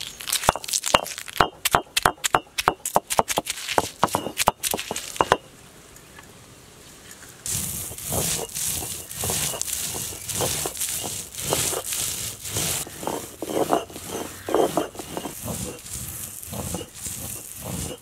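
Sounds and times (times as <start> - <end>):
grinding crunch on stone: 0.0 - 5.4, 7.1 - 18.0
stone roller cracking garlic cloves: 0.0 - 5.4, 7.4 - 18.0.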